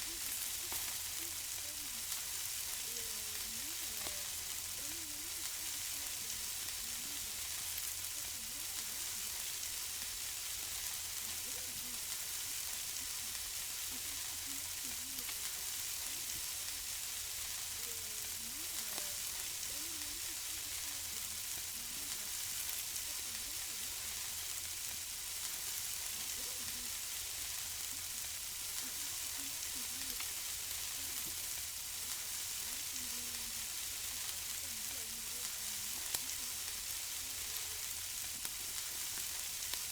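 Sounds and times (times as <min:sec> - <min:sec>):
food sizzling on grill: 0:00.0 - 0:39.9.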